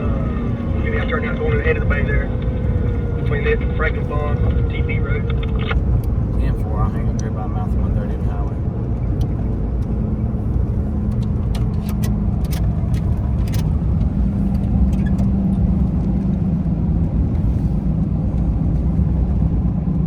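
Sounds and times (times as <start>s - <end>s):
engine drone inside vehicle: 0.0s - 20.0s
road rumble: 0.0s - 20.0s.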